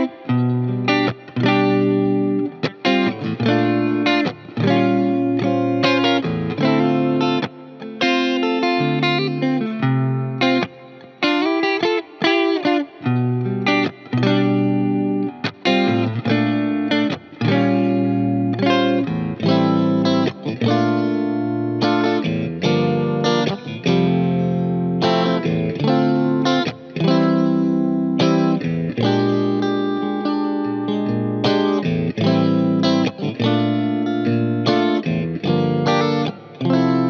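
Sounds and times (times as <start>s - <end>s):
distorted electric guitar: 0.0s - 37.0s.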